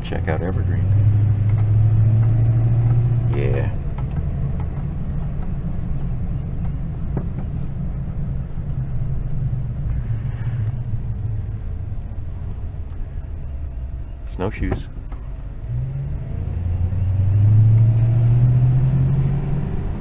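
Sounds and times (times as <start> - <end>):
road noise: 0.0 - 20.0
truck engine rumble: 0.0 - 20.0.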